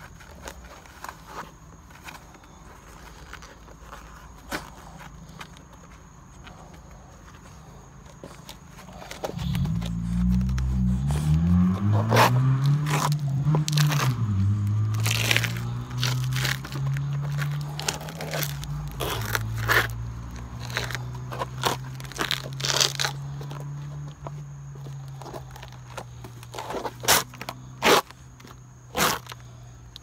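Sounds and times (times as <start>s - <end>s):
shoe soles scraping on concrete steps: 0.0s - 30.0s.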